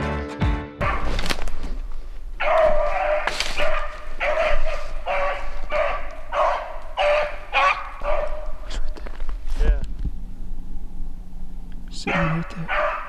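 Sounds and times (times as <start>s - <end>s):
puppy baying: 0.8s - 13.0s.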